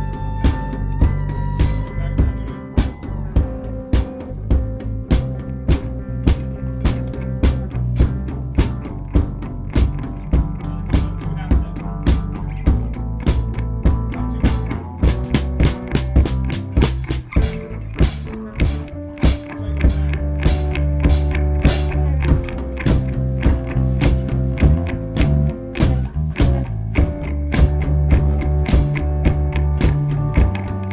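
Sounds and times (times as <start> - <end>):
bass line: 0.0 - 30.9
drum kit beat: 0.0 - 30.9.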